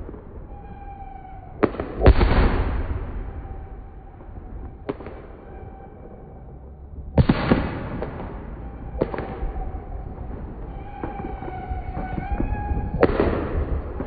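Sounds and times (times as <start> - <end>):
fireworks banging: 0.0 - 14.0
trailing rumble: 0.0 - 14.0.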